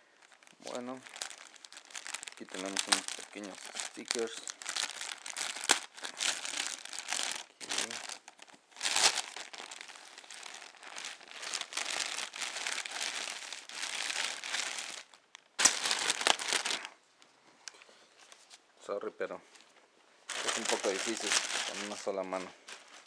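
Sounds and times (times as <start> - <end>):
plastic bag crinkling: 0.0 - 17.0, 20.3 - 23.0.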